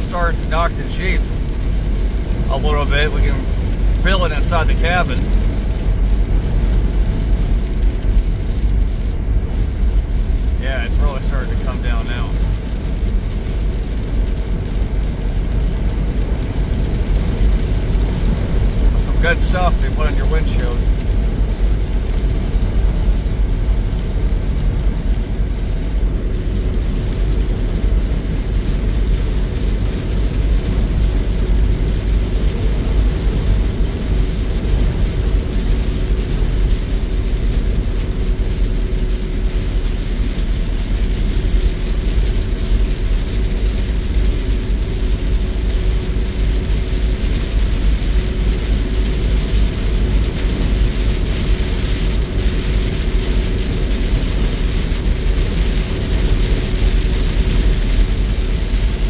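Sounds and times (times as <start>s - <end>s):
rain on a windshield: 0.0s - 59.0s
tyre and engine rumble: 0.0s - 59.0s.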